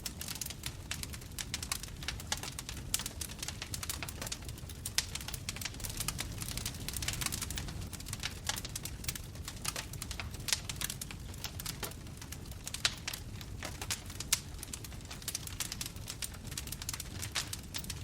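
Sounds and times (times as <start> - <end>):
bonfire pops and snaps: 0.0 - 18.0
low rumble of burning flames: 0.0 - 18.0.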